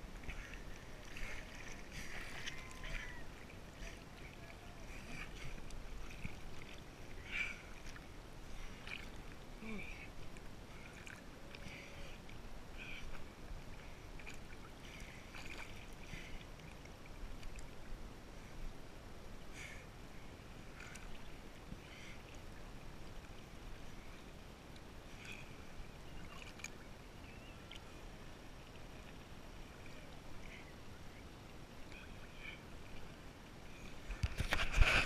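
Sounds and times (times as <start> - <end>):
water lapping and splashing: 0.0 - 35.0.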